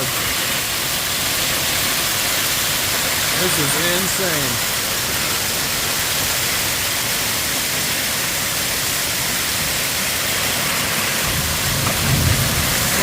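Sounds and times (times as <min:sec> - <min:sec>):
torrential rain and storm wind: 0:00.0 - 0:13.0.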